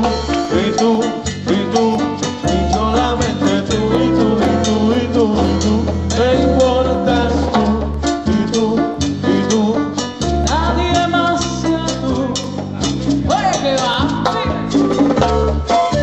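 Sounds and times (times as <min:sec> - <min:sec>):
congas: 0:00.0 - 0:16.0
person singing: 0:00.0 - 0:16.0
salsa band playing: 0:00.0 - 0:16.0.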